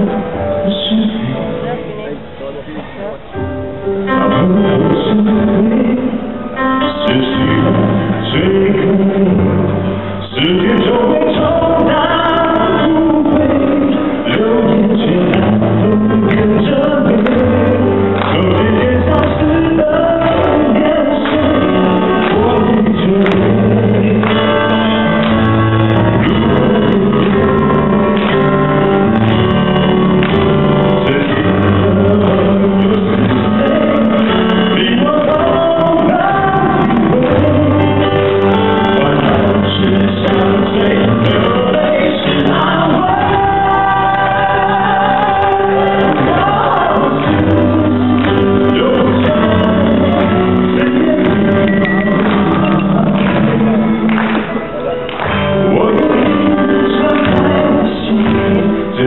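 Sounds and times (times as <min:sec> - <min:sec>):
man singing into microphone: 0:00.0 - 0:01.9, 0:03.3 - 0:59.0
accompanying music: 0:00.0 - 0:59.0.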